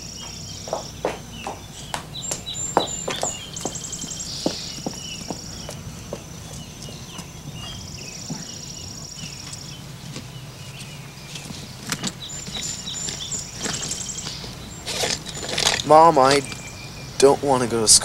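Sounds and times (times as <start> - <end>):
faint bird chirps: 0.0 - 17.4
insects trilling: 0.0 - 18.0.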